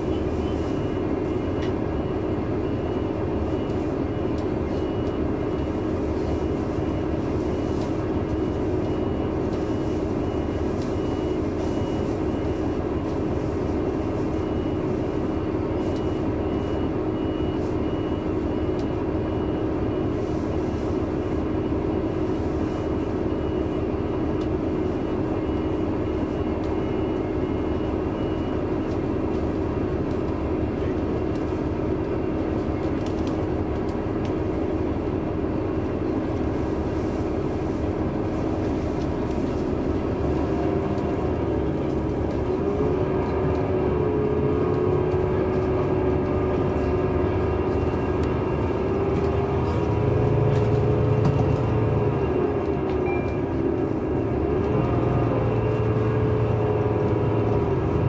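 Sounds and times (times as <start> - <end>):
bus diesel engine rumble: 0.0 - 58.0.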